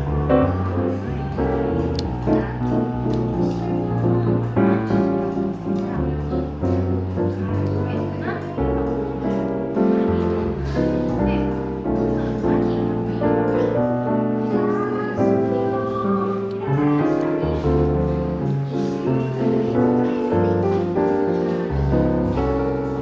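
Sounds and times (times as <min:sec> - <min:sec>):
smooth jazz piano music: 0:00.0 - 0:23.0.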